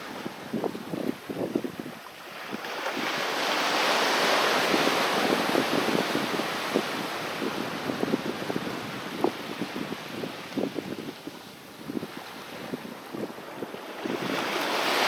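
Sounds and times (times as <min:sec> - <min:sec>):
waves washing on a beach: 0:00.0 - 0:15.0.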